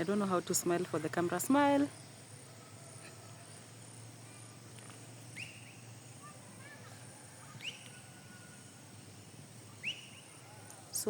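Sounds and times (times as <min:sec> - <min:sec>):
faint bird chirps: 0:01.7 - 0:11.0
bird calling: 0:02.0 - 0:11.0.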